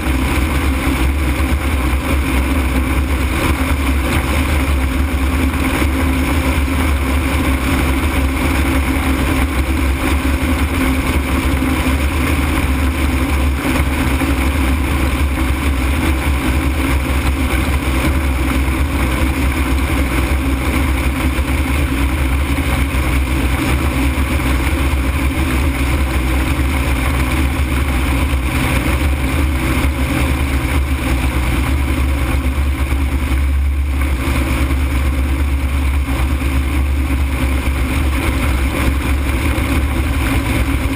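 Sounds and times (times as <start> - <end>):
ultralight aircraft in flight: 0.0 - 40.9.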